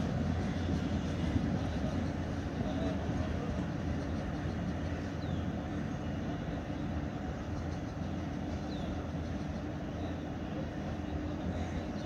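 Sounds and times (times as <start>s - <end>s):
distant diesel train rumble: 0.0s - 12.0s.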